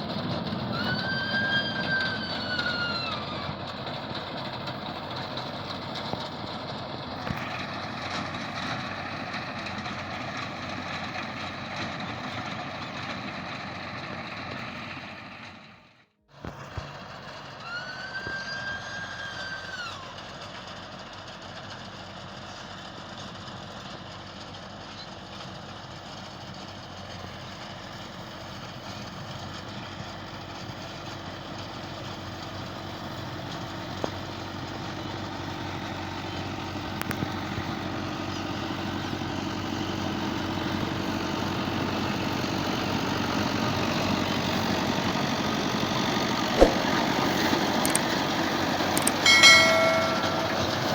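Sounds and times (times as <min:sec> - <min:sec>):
tractor engine running: 0:00.0 - 0:15.5, 0:20.2 - 0:50.9.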